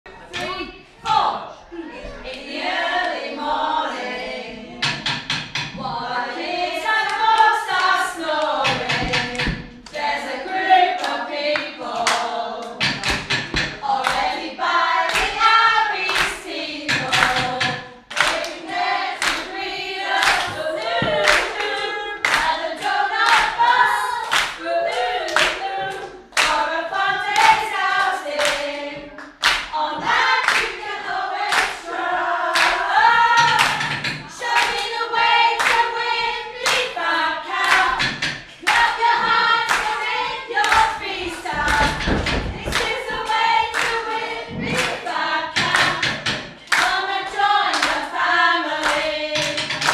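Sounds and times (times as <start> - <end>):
women singing together: 0.1 - 49.9
hands clapping: 6.9 - 10.1, 11.0 - 31.9, 32.5 - 37.0, 37.6 - 49.9.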